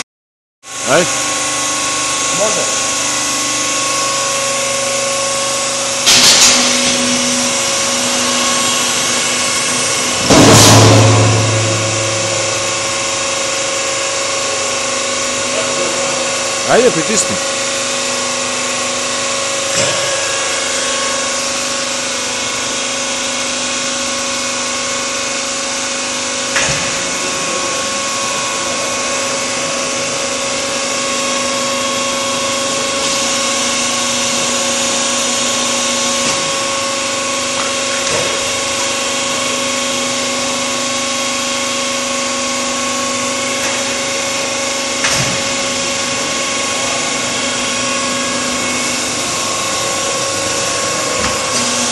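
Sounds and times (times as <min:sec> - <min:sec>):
machinery whine: 0:00.7 - 0:51.9.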